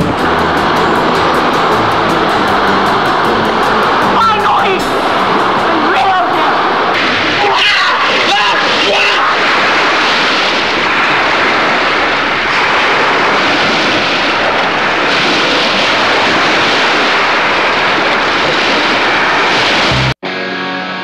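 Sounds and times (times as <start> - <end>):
choppy water and surf rushing: 0.0 - 20.2.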